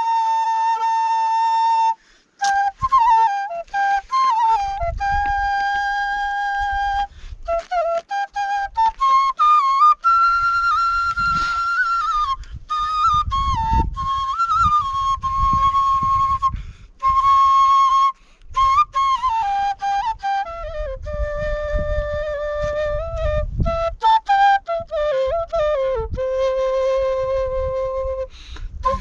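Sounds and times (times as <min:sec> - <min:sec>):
bamboo flute melody: 0:00.0 - 0:29.0.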